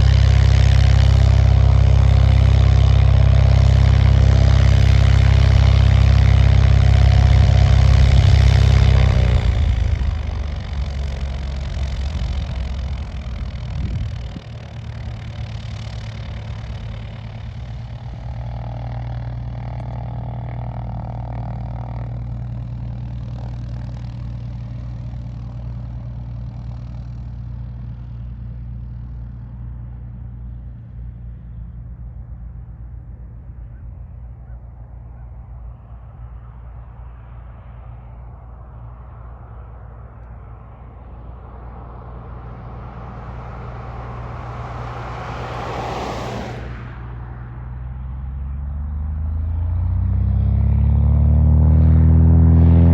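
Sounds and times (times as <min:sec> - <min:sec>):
vehicle rushing by: 0:00.0 - 0:25.9, 0:35.9 - 0:52.9
low engine hum: 0:00.0 - 0:52.9.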